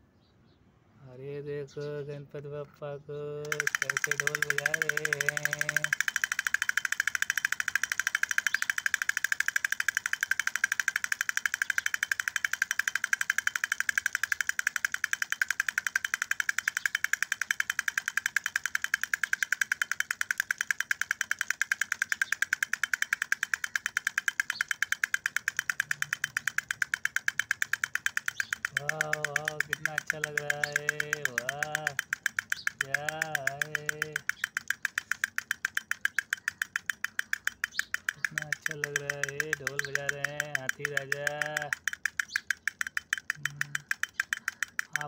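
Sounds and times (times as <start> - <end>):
sticks tapping toy drum: 3.4 - 45.0.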